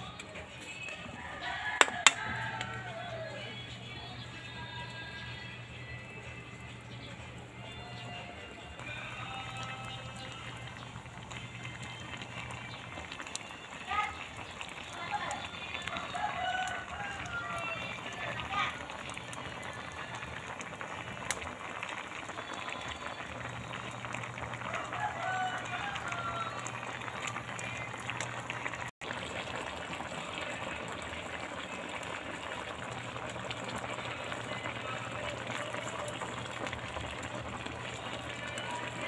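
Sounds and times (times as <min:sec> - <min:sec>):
coconut milk simmering and bubbling: 0:00.0 - 0:39.0.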